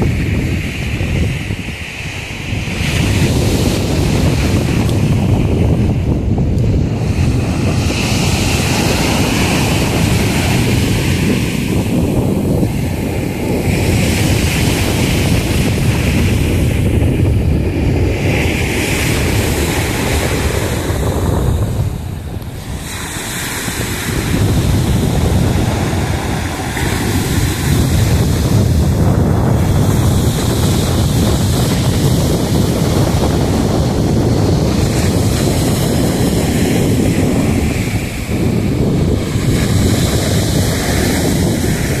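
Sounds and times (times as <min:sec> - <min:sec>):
surf breaking on a beach: 0:00.0 - 0:42.0
wind buffeting the microphone: 0:00.0 - 0:42.0.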